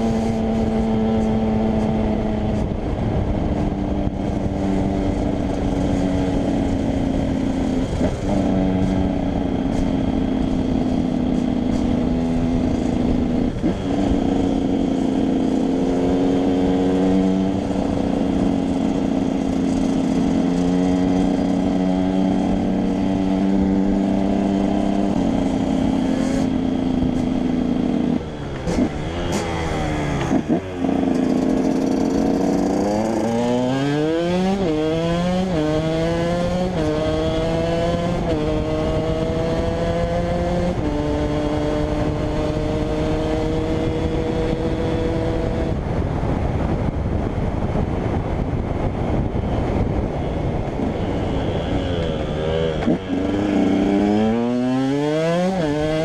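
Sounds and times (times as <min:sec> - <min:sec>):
two-stroke motorcycle engine: 0:00.0 - 0:56.0.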